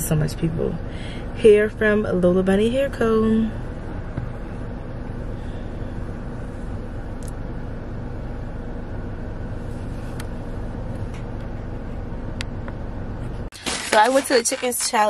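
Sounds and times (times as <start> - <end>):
car cabin hum: 0.0 - 15.0.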